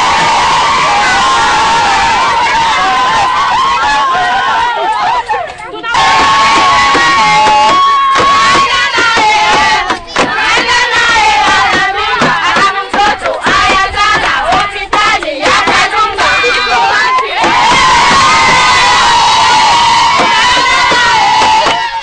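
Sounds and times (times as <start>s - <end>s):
crowd singing and shouting: 0.0s - 22.0s.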